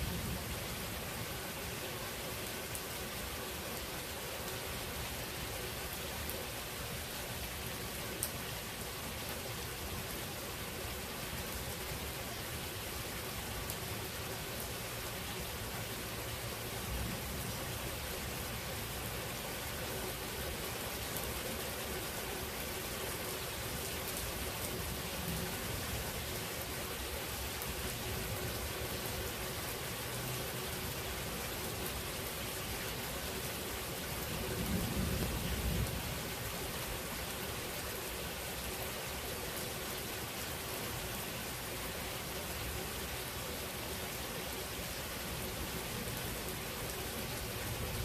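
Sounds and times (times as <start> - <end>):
steady rain: 0.0 - 48.0.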